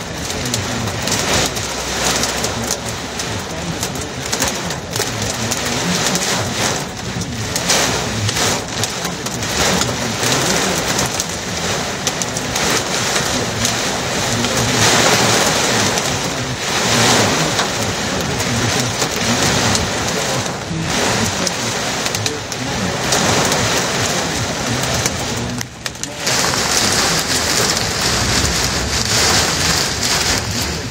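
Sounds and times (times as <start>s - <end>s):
heavy rain pounding on a car: 0.0s - 30.9s.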